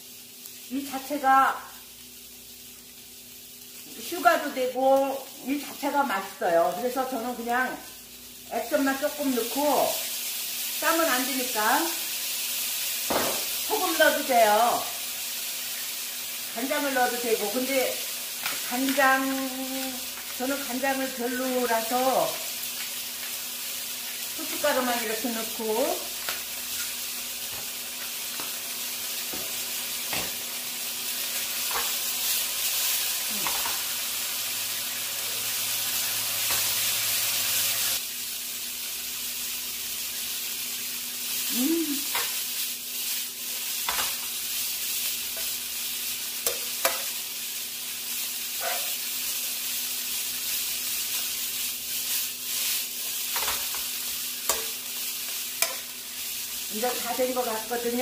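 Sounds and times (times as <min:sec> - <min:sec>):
shrimp sizzling in frying pan: 0:00.0 - 0:58.0.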